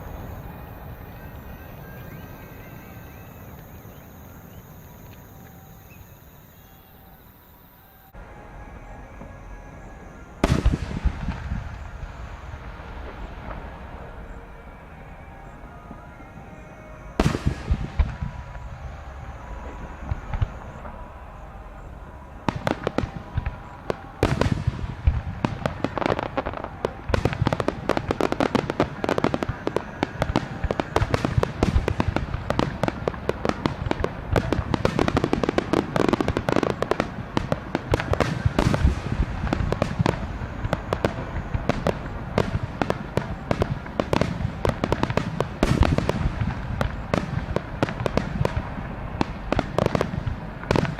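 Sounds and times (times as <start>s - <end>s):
fireworks bangs: 0.0s - 7.3s, 8.0s - 50.9s.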